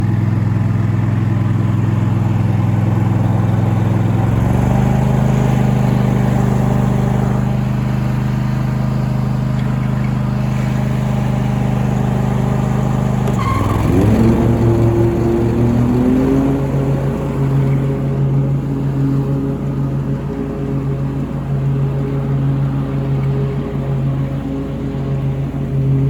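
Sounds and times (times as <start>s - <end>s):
lawnmower engine running: 0.0s - 26.0s.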